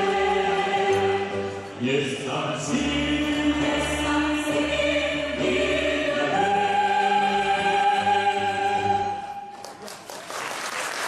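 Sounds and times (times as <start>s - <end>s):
choir singing held chords: 0.0s - 9.5s.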